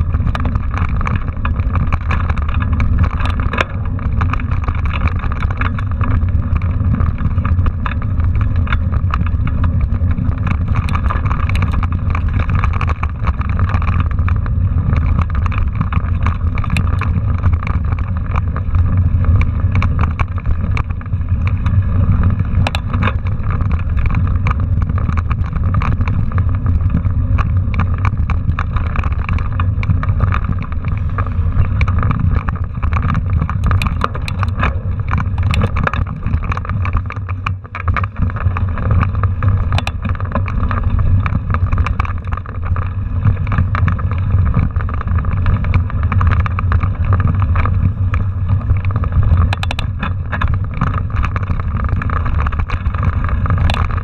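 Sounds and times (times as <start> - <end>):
bike rattles and clicks: 0.0 - 54.0
wind rumble on microphone: 0.0 - 54.0.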